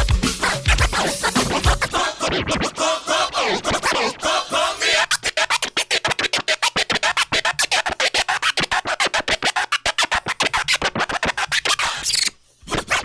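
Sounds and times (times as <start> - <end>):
turntable scratching: 0.0 - 13.0.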